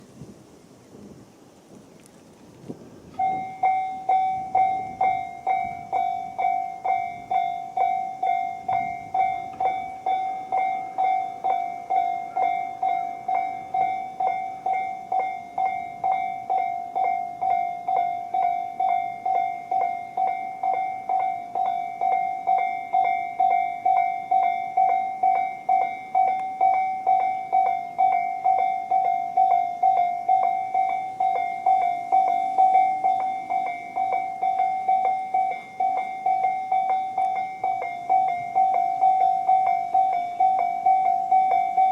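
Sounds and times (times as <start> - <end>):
level crossing bell dinging: 3.2 - 41.9.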